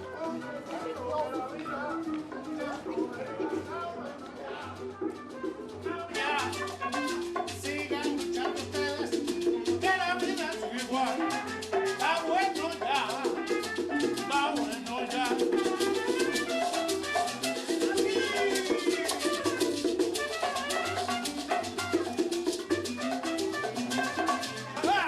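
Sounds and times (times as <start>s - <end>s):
salsa band music: 0.0s - 25.0s.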